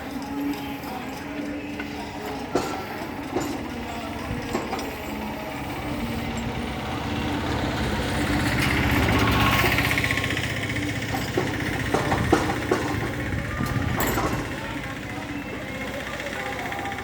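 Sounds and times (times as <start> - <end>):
electric backhoe motor running: 0.0 - 17.0.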